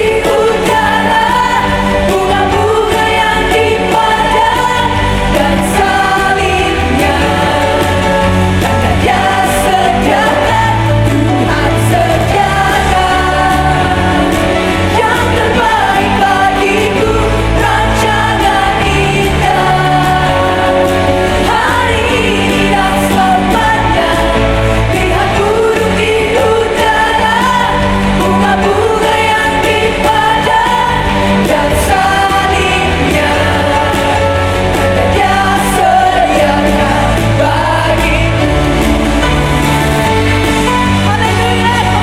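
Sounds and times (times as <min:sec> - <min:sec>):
band and singers performing: 0:00.0 - 0:42.0.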